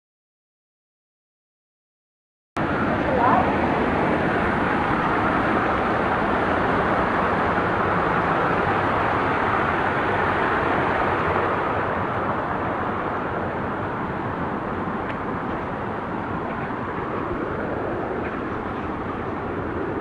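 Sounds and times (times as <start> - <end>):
waterfall roaring: 2.6 - 20.0.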